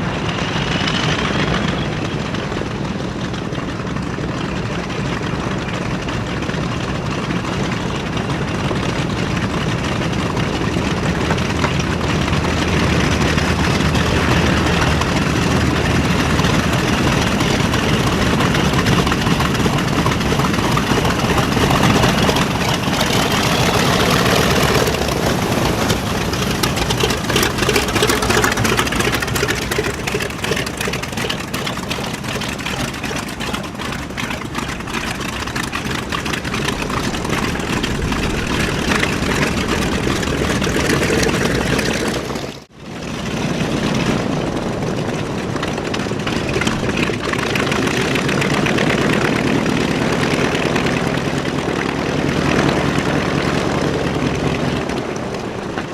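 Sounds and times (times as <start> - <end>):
radial aircraft engines running: 0.0 - 55.9.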